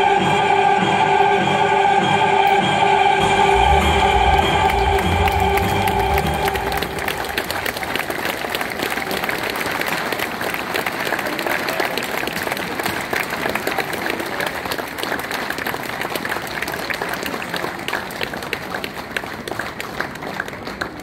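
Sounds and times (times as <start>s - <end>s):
crowd applauding: 3.4s - 21.0s.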